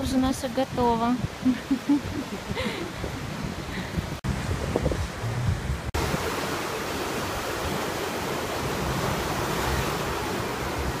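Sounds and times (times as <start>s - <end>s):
surf washing up beach: 0.0s - 11.0s
wind rumble on microphone: 0.0s - 11.0s.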